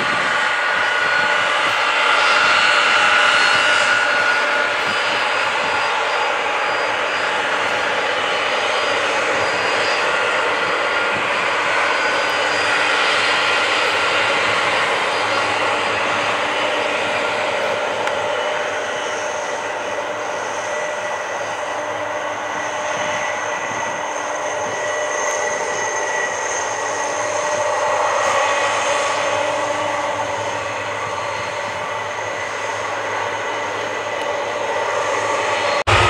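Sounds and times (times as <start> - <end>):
jet engines whining: 0.0 - 36.0.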